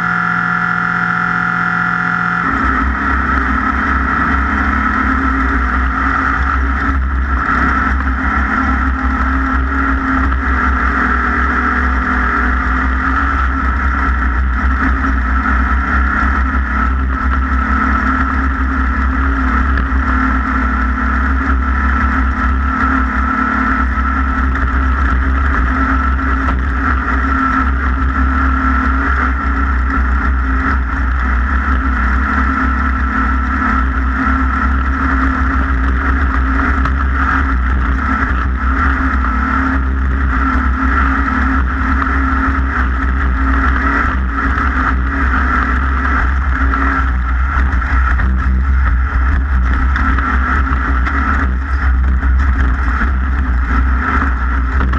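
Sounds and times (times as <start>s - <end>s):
racing engine running steadily: 0.0s - 54.9s.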